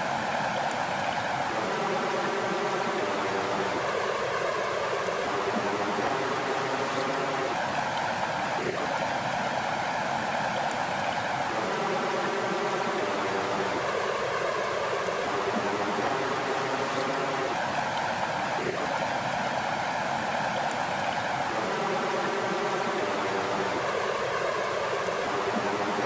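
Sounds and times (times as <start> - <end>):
water washing on lakeshore: 0.0 - 26.0.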